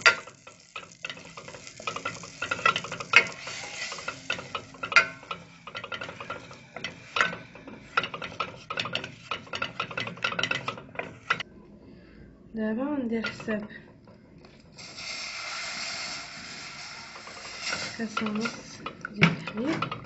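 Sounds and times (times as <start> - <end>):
wooden spoon scraping metal pot: 0.0 - 11.4, 14.8 - 20.0.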